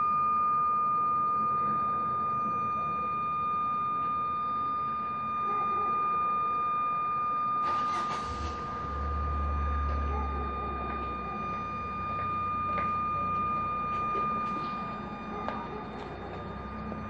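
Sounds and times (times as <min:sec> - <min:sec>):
high-pitched electronic tone: 0:00.0 - 0:17.0.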